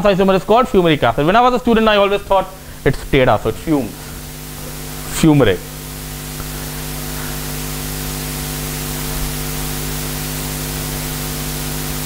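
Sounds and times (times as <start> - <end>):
low electrical hum: 0.0 - 12.0
steady hiss: 0.0 - 12.0.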